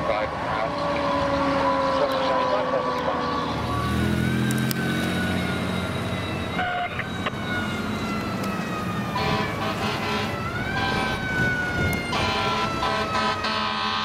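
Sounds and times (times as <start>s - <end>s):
fire truck siren wailing: 0.0s - 14.0s
truck engine rumble: 0.0s - 14.0s.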